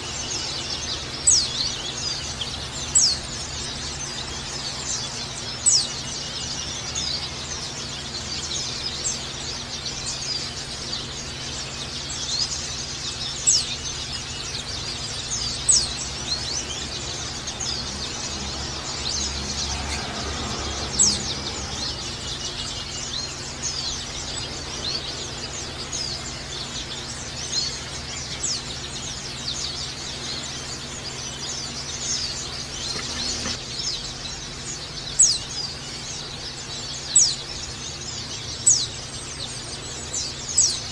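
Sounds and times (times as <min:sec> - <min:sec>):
bird chirping rapidly: 0:00.0 - 0:40.9
loud sharp bird chirp: 0:00.0 - 0:40.9.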